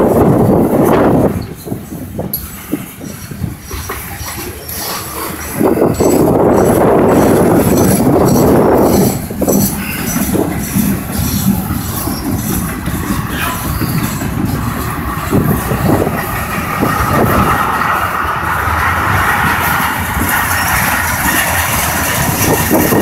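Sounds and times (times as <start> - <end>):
freight train wheels rumbling: 0.0 - 23.0
wheels clacking over rail joints: 0.0 - 23.0.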